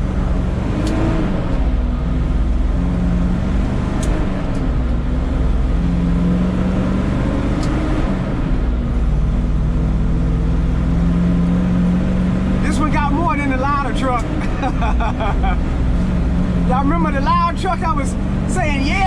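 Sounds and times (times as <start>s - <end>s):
truck engine shifting gears: 0.0s - 19.0s.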